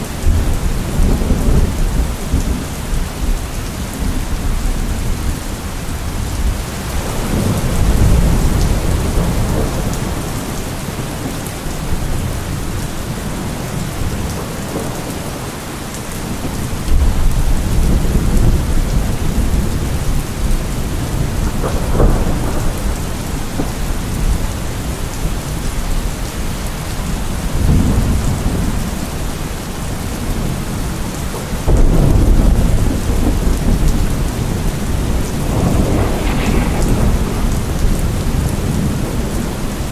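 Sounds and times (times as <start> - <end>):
steady rain: 0.0 - 39.9
low rolling thunder: 0.1 - 39.9.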